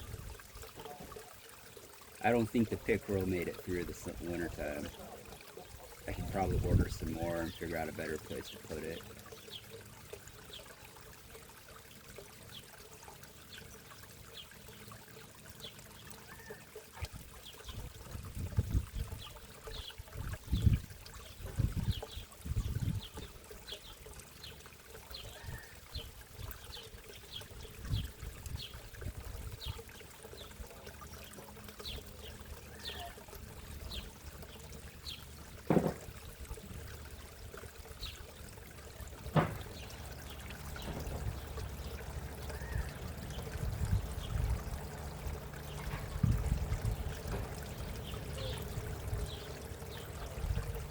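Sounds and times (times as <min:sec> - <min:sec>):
pond water trickling: 0:00.0 - 0:50.9.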